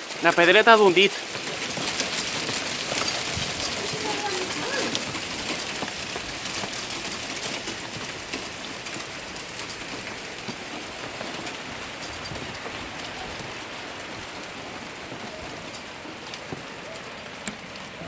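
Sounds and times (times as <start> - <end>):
hailstones ticking on hard surfaces: 0.0 - 18.0
rain hissing: 0.0 - 18.0.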